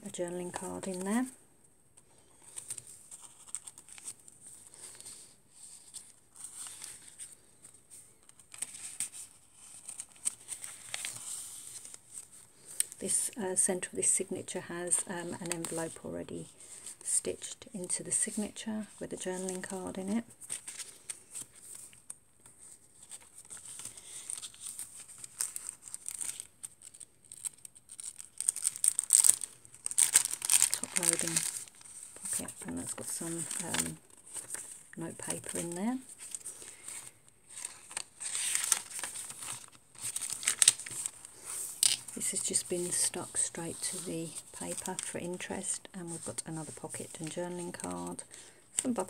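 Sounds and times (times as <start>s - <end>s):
paper rustling and crinkling: 2.0s - 13.2s, 14.9s - 17.1s, 18.2s - 49.0s.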